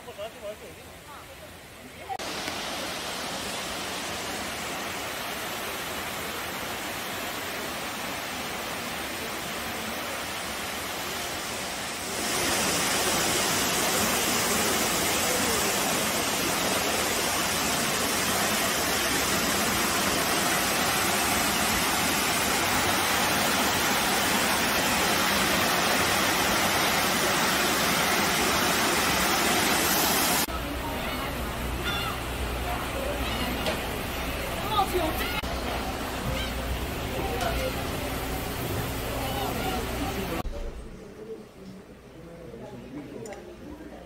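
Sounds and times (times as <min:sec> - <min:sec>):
waterfall rushing: 0:02.0 - 0:40.4.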